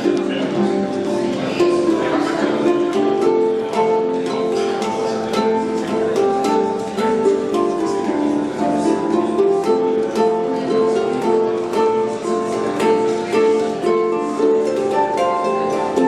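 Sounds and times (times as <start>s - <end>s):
handpan notes ringing: 0.0s - 16.0s
plucked harp strings: 0.0s - 16.0s.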